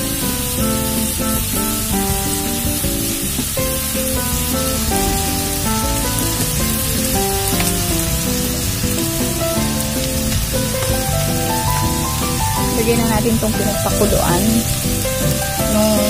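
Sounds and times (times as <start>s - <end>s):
background music: 0.0s - 16.0s
meat and onions sizzling: 0.0s - 16.0s.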